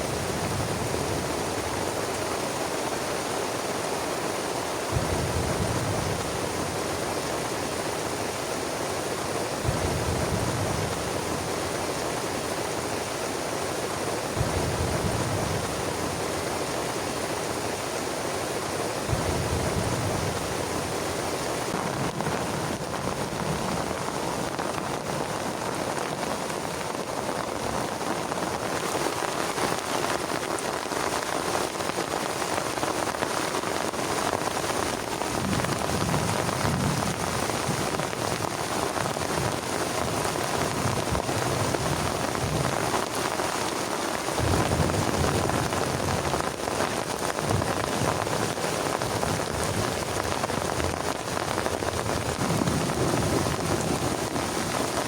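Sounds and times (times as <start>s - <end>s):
heavy rain on plastic tarp: 0.0s - 55.0s.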